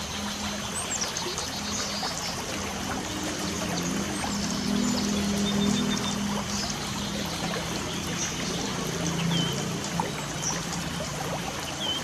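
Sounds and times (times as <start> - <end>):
light rain falling: 0.0 - 12.0.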